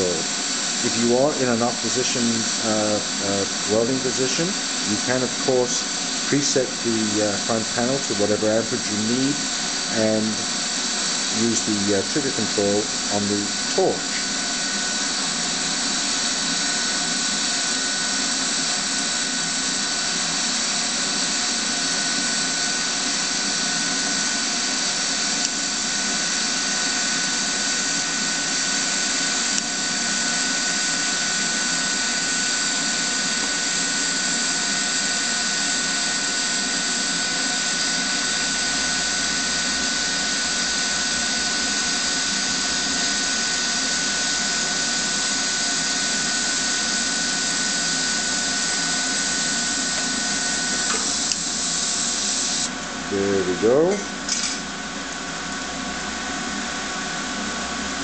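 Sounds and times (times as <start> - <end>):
welding arc hissing: 0.0 - 54.7
thin high whine: 0.0 - 56.2.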